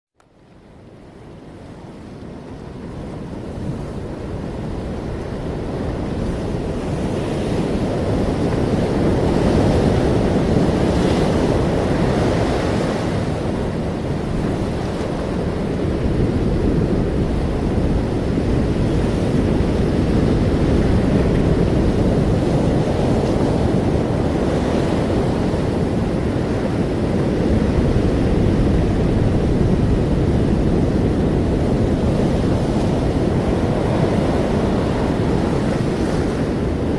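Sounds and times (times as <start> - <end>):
wind rumble on microphone: 0.2 - 36.9
ocean waves washing onto shore: 0.3 - 36.9.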